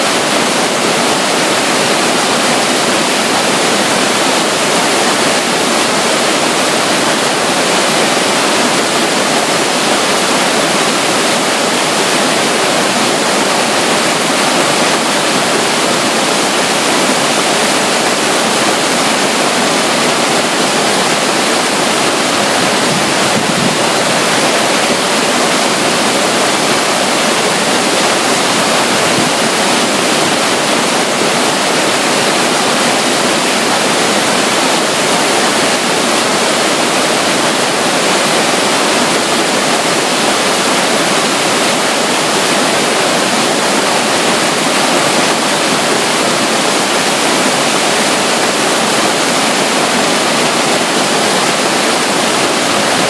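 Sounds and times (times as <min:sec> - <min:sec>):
waterfall and river roar: 0:00.0 - 0:53.0.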